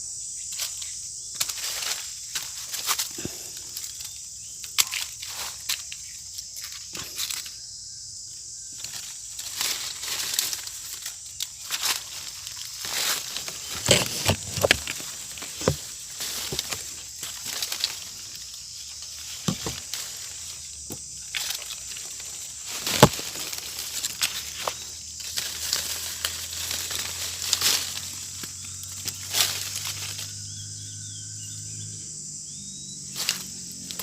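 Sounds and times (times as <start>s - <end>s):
dry leaves rustling and crackling: 0.5s - 7.6s, 8.6s - 30.4s
twigs snapping: 0.5s - 7.6s, 8.8s - 30.2s, 33.2s - 34.0s.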